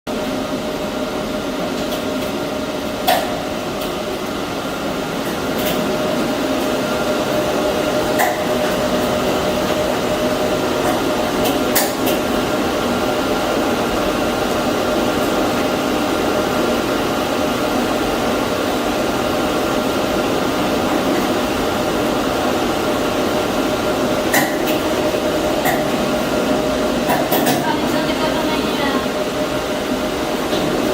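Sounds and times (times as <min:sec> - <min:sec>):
air conditioner humming and whining: 0:00.1 - 0:30.9.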